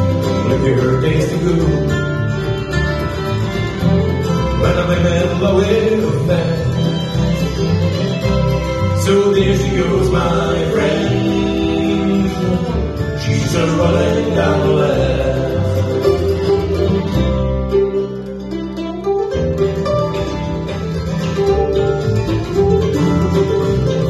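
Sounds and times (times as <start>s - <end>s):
bluegrass band playing: 0.0s - 24.0s.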